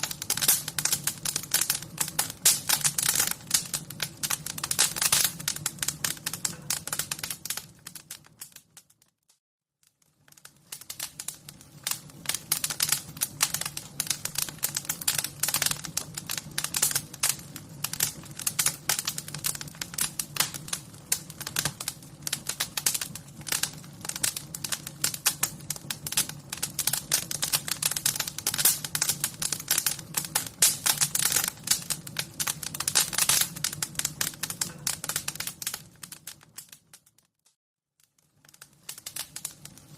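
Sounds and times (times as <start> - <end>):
wood fire crackling: 0.0 - 37.4, 38.0 - 39.9.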